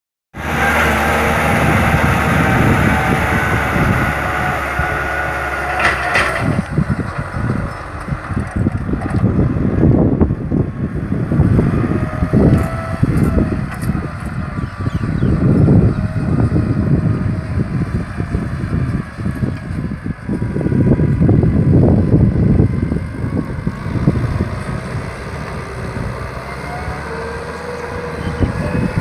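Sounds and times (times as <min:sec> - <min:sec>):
tractor engine running: 0:00.4 - 0:29.0.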